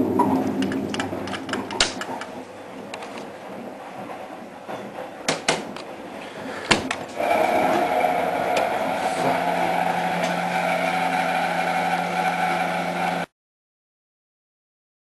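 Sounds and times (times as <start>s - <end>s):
low hum: 0.0s - 13.3s
washing machine drum spinning: 0.0s - 13.3s.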